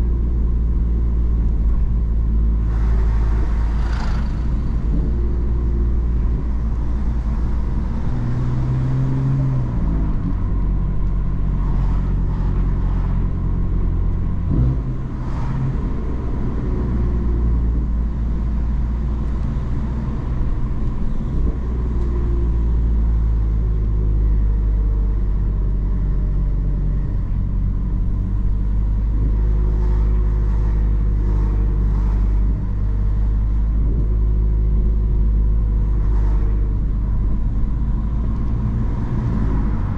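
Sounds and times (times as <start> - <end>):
car engine running on the road: 0.0 - 39.9.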